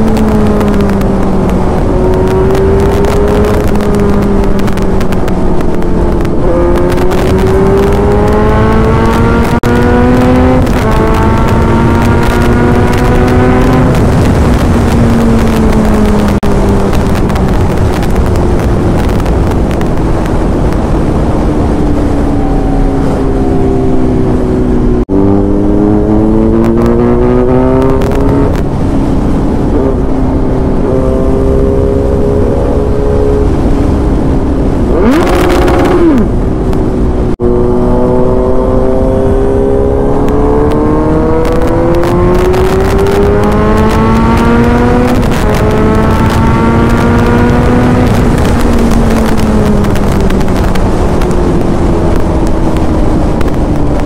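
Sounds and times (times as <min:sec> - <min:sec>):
motorcycle engine running hard: 0:00.0 - 0:54.0
wind rush: 0:00.0 - 0:54.0.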